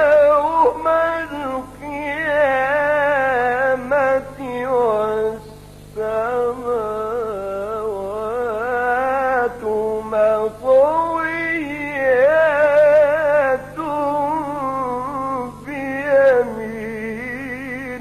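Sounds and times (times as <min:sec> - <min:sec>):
man chanting recitation: 0:00.0 - 0:18.0.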